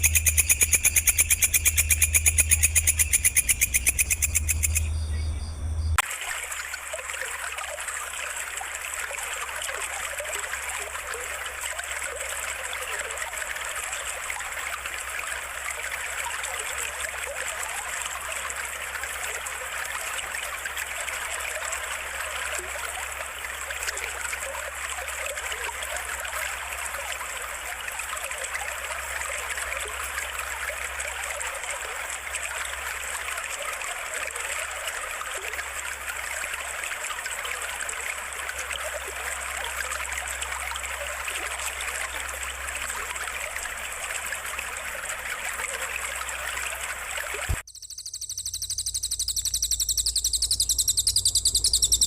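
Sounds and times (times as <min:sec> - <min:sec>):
babbling stream water: 0:00.0 - 0:05.2, 0:06.0 - 0:52.0.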